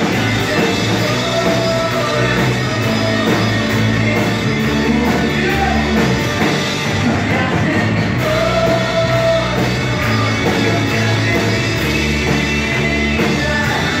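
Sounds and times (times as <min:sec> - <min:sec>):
bass guitar: 0:00.0 - 0:14.0
electric guitars: 0:00.0 - 0:14.0
keyboard: 0:00.0 - 0:14.0
person singing lead: 0:00.0 - 0:14.0.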